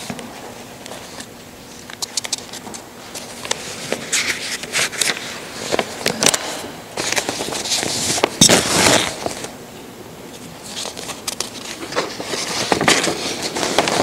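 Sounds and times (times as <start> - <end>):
paper rustling and crackling: 0.9 - 9.5, 10.4 - 14.0.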